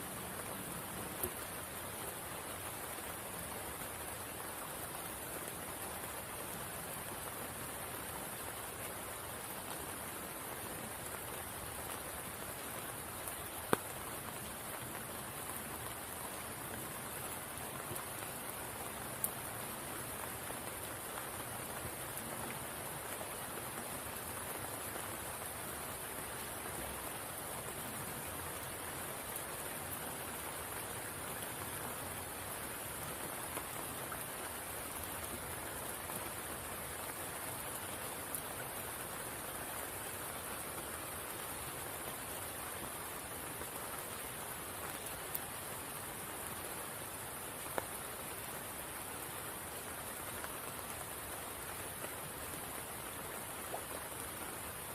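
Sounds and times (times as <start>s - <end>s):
rain falling on water: 0.0s - 54.9s.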